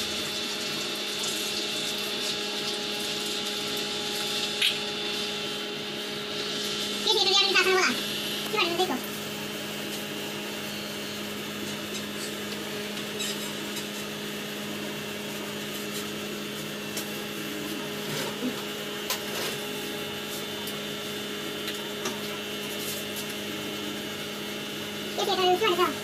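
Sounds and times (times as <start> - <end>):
electric motor hum: 0.0 - 26.0.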